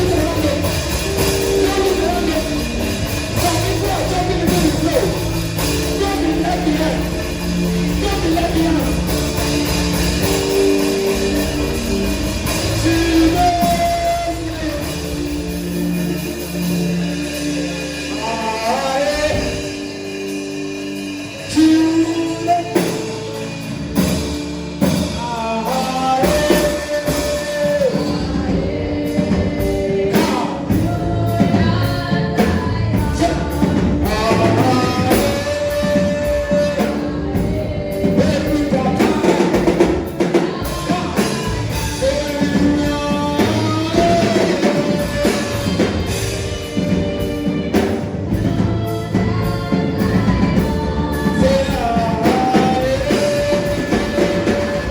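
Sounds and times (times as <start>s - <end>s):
band with drum kit: 0.0s - 54.9s
people singing worship music: 0.0s - 54.9s.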